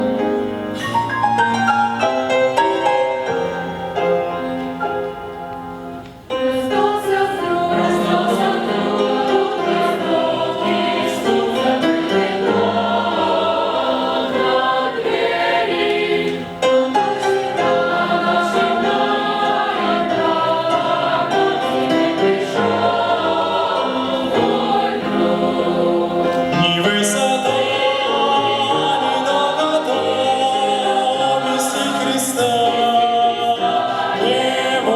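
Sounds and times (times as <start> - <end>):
choir singing: 6.3 - 34.9.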